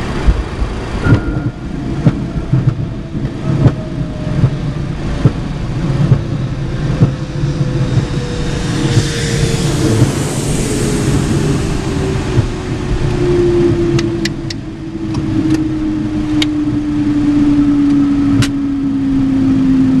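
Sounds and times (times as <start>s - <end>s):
jet engine rush and whine: 0.0s - 20.0s.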